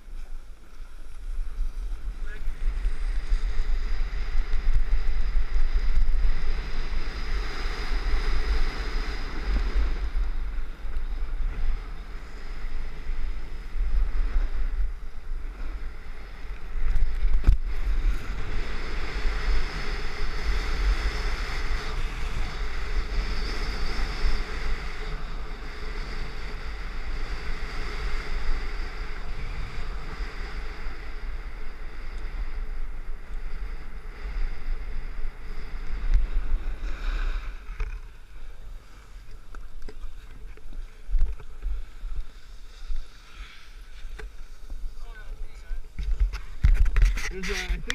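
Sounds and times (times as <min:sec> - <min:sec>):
snowboard scraping over snow: 0:00.0 - 0:47.9.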